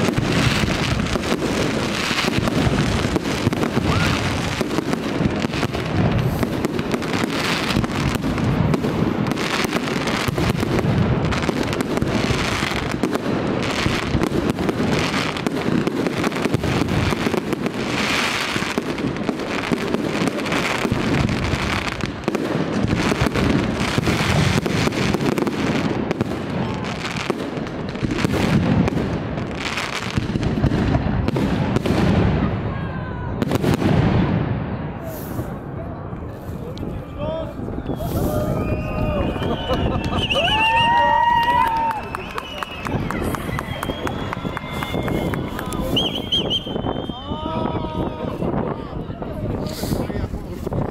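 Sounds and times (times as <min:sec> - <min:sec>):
fireworks bursting and banging: 0:00.0 - 0:50.9.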